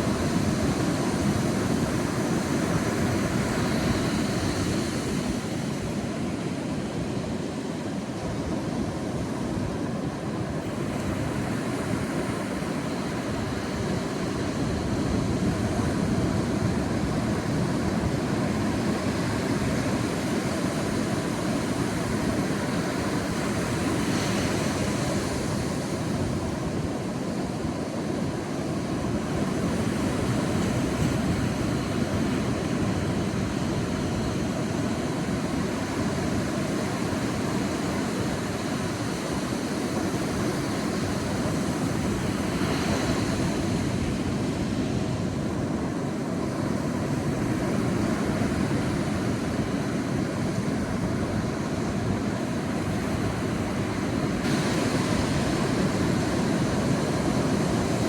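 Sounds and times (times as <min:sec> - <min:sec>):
surf rumbling on beach: 0:00.0 - 0:58.0.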